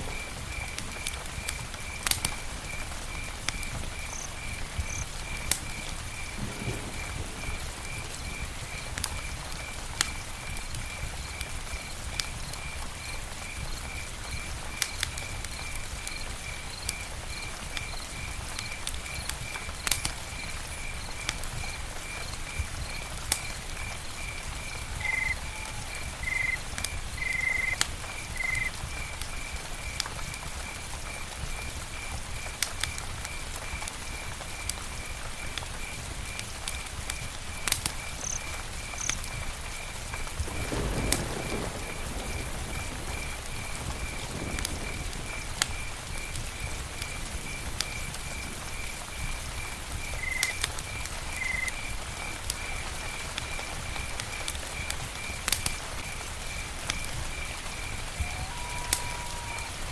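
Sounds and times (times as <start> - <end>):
cricket chirping: 0.0 - 59.8
campfire crackling and popping: 0.0 - 59.9.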